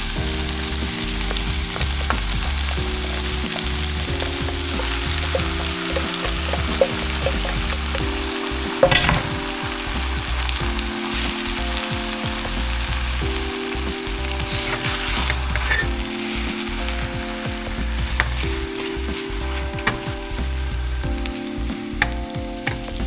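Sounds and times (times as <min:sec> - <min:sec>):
soft background music: 0:00.0 - 0:23.0
steak sizzling: 0:00.0 - 0:23.0.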